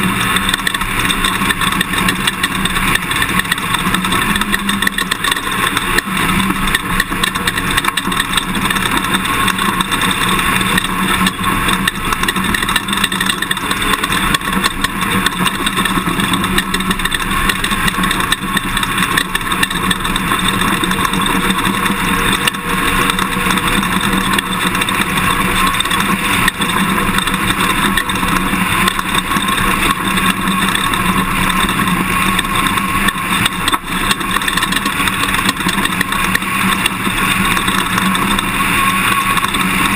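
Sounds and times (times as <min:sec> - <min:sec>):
engine and road noise: 0:00.0 - 0:39.9
small rattles and knocks: 0:00.0 - 0:39.9.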